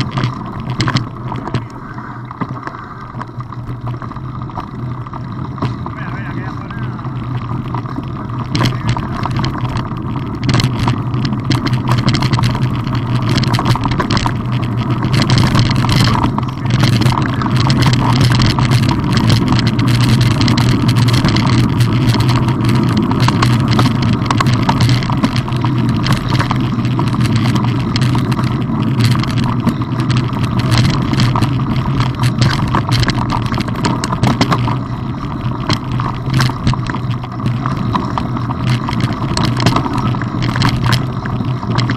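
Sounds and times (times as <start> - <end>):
bike rattling: 0.0 - 41.9
low rumble: 0.0 - 41.9
tyres crunching over stones: 0.0 - 41.9.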